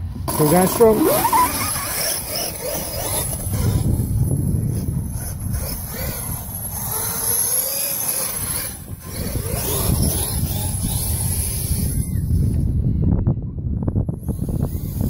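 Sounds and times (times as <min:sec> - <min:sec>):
electric motor whining: 0:00.2 - 0:12.8, 0:14.2 - 0:15.0.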